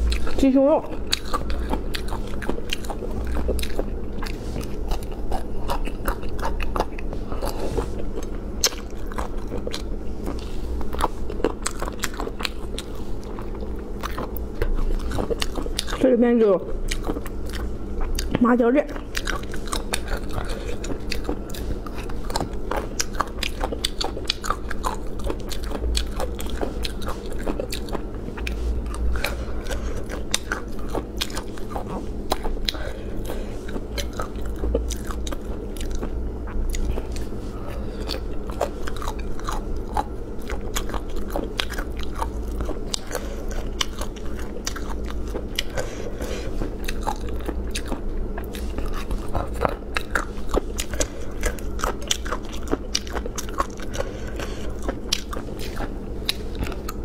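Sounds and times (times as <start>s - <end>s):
crunchy chewing: 0.0s - 57.0s
steady low hum: 0.0s - 57.0s.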